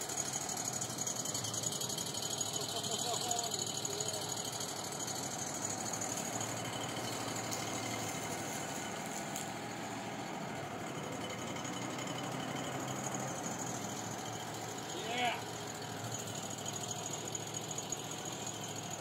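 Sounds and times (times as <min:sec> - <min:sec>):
dust collector running: 0:00.0 - 0:19.0
sawmill engine running: 0:00.0 - 0:19.0.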